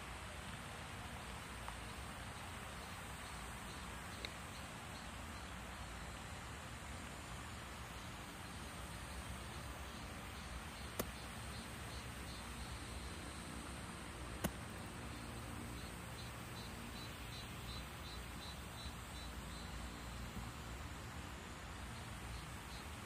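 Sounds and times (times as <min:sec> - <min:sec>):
insects chirping faintly: 0:00.0 - 0:23.0
outdoor background hiss: 0:00.0 - 0:23.0.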